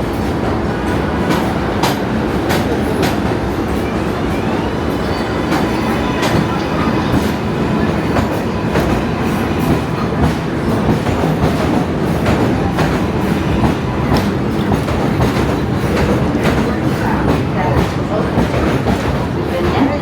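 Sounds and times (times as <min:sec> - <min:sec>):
subway train rumble: 0:00.0 - 0:20.0
wheels clacking over rail joints: 0:00.0 - 0:20.0.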